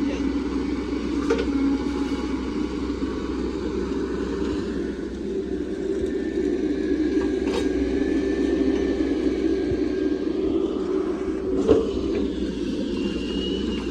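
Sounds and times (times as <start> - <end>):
excavator diesel engine running: 0.0 - 13.9
thin high whine: 0.0 - 13.9.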